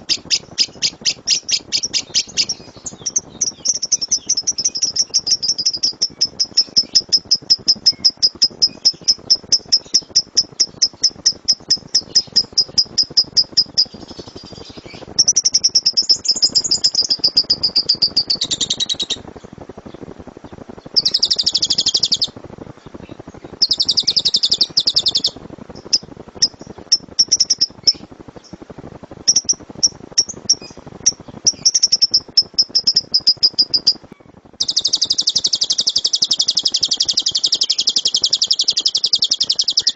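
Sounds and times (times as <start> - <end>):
lovebird singing: 0.0 - 39.9.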